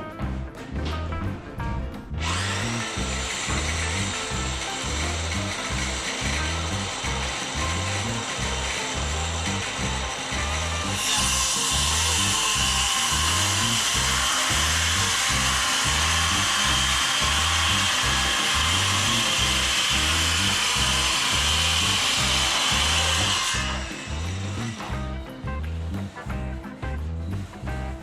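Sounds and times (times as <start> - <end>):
background music with beat: 0.0 - 28.0
power tool running: 2.2 - 27.6.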